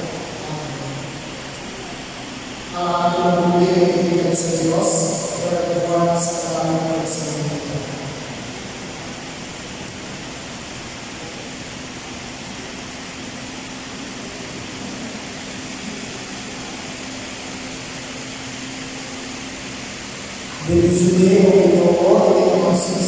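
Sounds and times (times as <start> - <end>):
electric fans hissing: 0.0 - 23.0
faint low hum: 0.0 - 23.0.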